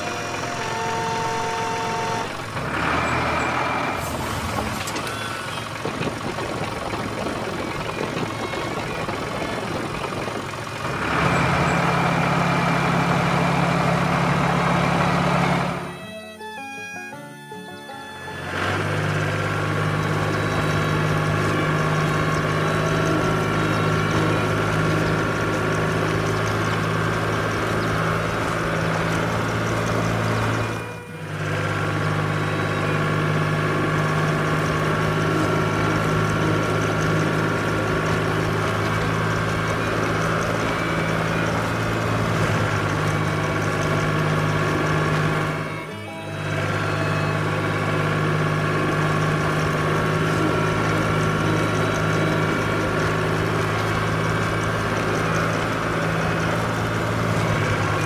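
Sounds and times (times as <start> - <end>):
heavy vehicle engine idling: 0.0 - 58.0.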